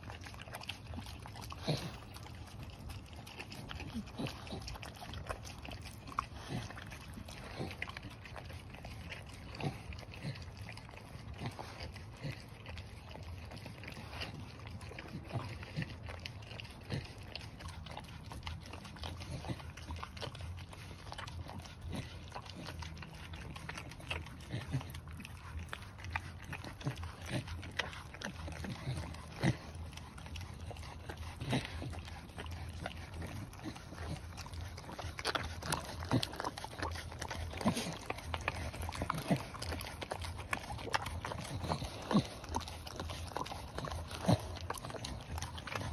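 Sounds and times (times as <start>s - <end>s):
dog licking wet food: 0.0s - 45.9s
steady low hum: 0.0s - 45.9s.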